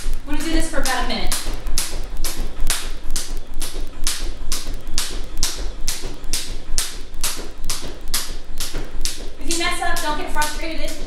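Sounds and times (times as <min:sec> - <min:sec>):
jump rope slapping wooden floor: 0:00.0 - 0:11.0.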